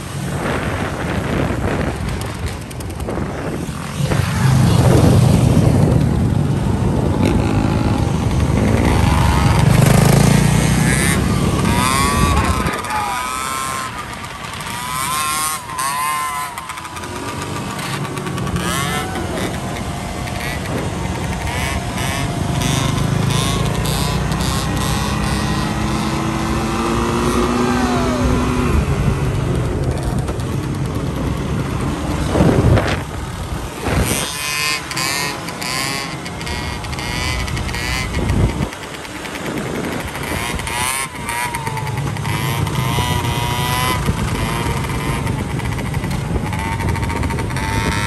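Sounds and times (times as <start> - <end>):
scooter engines revving: 0.0 - 48.0.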